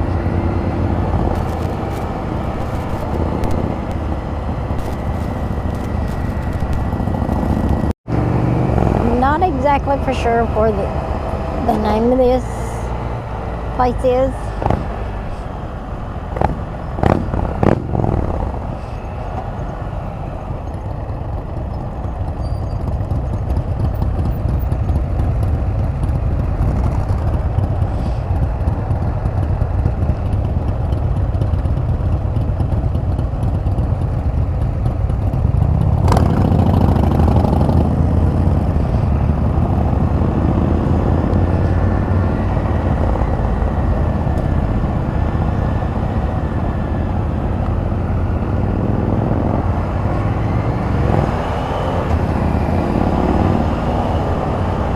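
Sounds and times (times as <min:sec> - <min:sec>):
engine rumbling: 0:00.0 - 0:54.9
road noise: 0:00.0 - 0:54.9.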